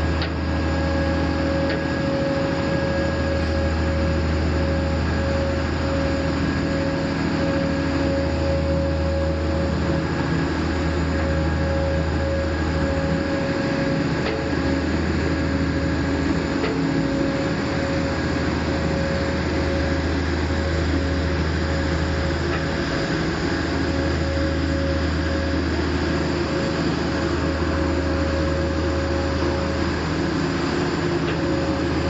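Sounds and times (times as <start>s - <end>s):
diesel engine droning: 0.0s - 32.0s
steady whine: 0.0s - 32.0s.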